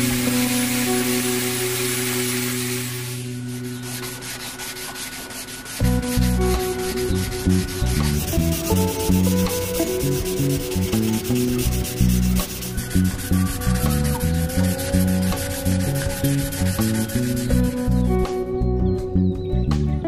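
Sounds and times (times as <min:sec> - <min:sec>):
sandpaper rubbing wood: 0:00.0 - 0:18.2
background music: 0:00.0 - 0:20.0.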